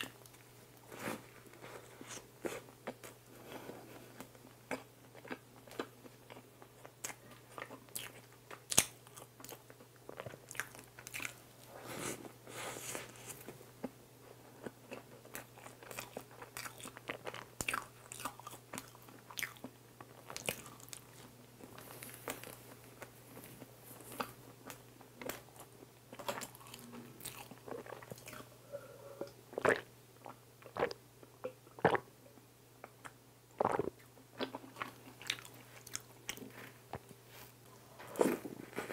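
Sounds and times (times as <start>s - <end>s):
low steady hum: 0.0s - 38.9s
close chewing and mouth sounds: 1.2s - 11.4s, 13.3s - 28.6s, 32.8s - 38.9s.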